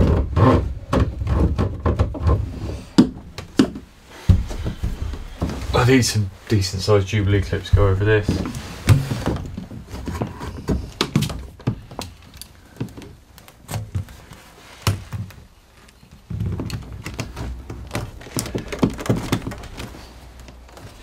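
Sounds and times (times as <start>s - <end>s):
plastic hose knocking and scraping: 0.0s - 6.0s, 7.2s - 21.0s.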